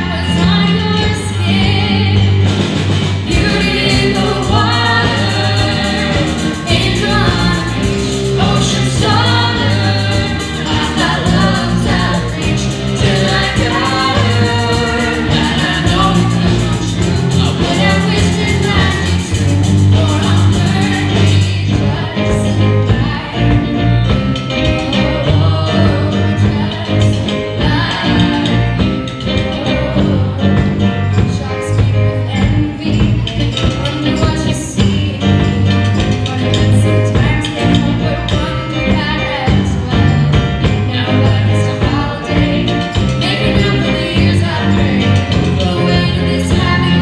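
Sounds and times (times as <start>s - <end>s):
drums: 0.0s - 47.0s
sung vocals: 0.0s - 47.0s.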